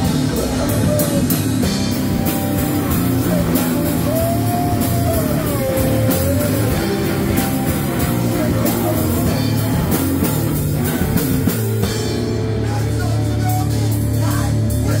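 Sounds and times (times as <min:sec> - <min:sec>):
bass guitar: 0:00.0 - 0:15.0
drum kit with cymbals: 0:00.0 - 0:15.0
electric guitar: 0:00.0 - 0:15.0.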